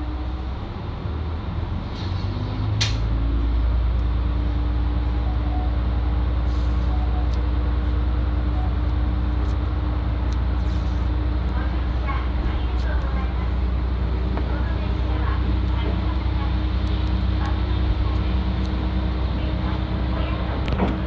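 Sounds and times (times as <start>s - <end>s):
diesel engine low drone: 0.0s - 21.0s.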